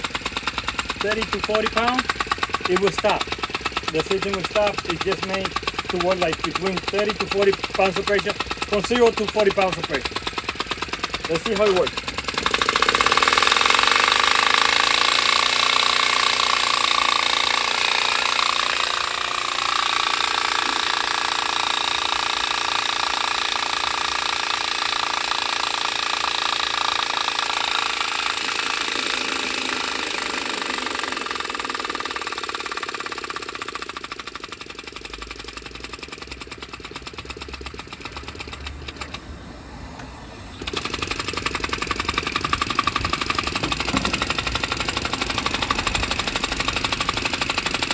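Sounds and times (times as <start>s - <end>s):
piston engine clattering: 0.0s - 39.3s, 40.6s - 47.9s.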